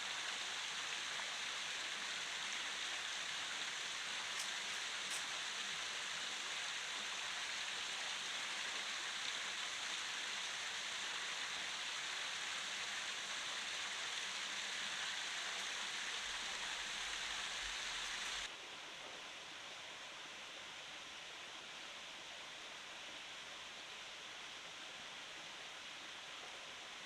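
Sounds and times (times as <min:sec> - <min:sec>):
outdoor water hiss: 0:00.0 - 0:27.0.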